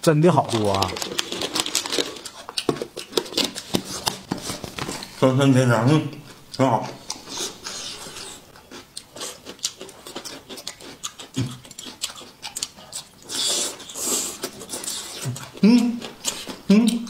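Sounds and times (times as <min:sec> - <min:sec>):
wet crunchy chewing: 0:00.5 - 0:05.2, 0:06.3 - 0:17.0.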